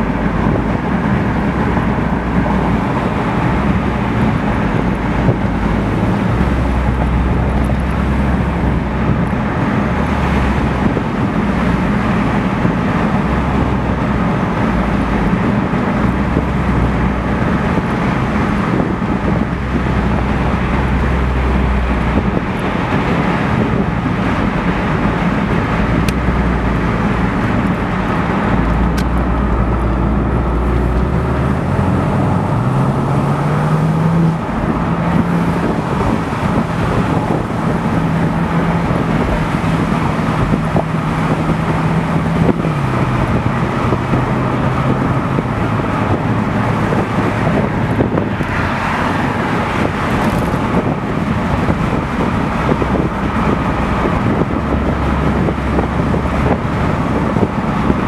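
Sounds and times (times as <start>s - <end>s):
car engine hum: 0.0s - 58.0s
road and wind noise: 0.0s - 58.0s.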